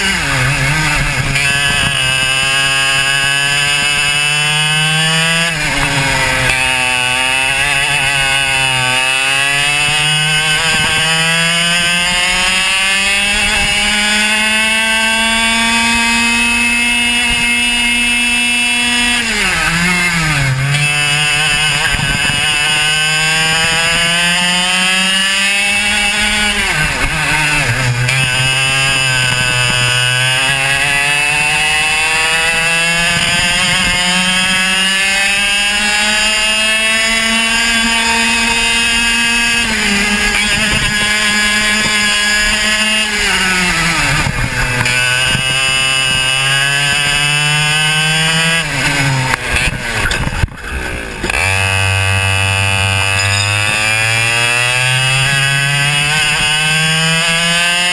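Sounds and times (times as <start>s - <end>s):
racing kart engine: 0.0s - 57.9s.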